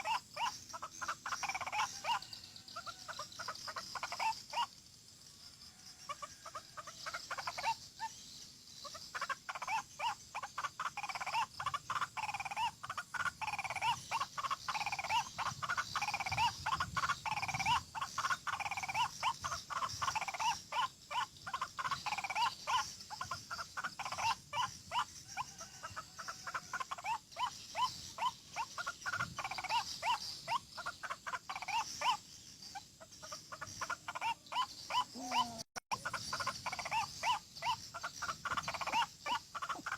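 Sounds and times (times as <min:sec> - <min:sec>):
bird croaking calls: 0:00.0 - 0:04.9, 0:05.8 - 0:39.9
insect drone: 0:00.0 - 0:39.9.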